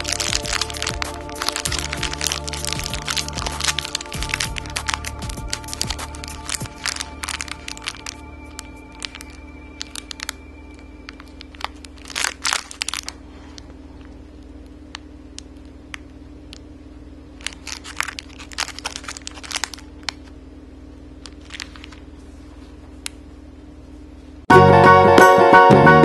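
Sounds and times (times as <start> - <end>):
plastic packet crinkling: 0.0 - 16.7, 17.3 - 20.4, 21.2 - 23.2
steady low hum: 0.0 - 25.2.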